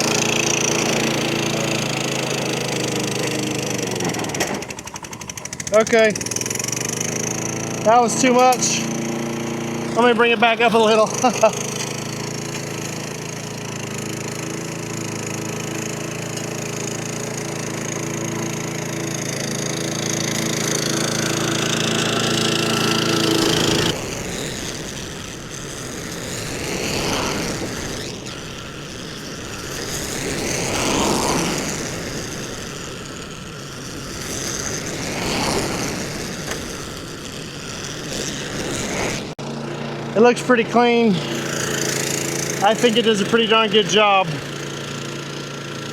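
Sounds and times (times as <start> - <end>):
mower engine running: 0.0 - 45.9
rough engine noise: 0.0 - 45.9.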